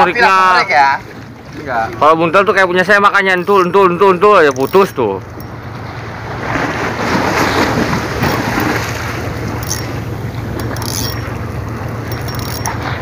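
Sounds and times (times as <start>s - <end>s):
sea washing against breakwater: 0.0s - 13.0s
steady low hum: 0.0s - 13.0s.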